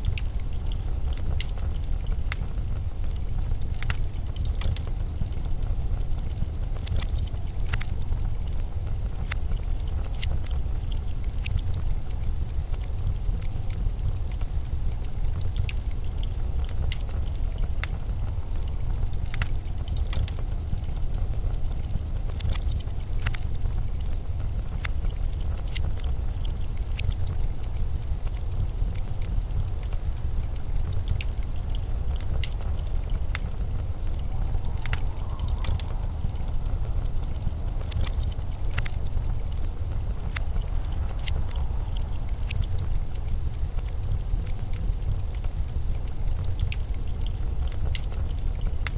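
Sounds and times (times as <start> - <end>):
blizzard wind rumble: 0.0 - 48.9
sharp crackles and clicks: 0.0 - 48.9.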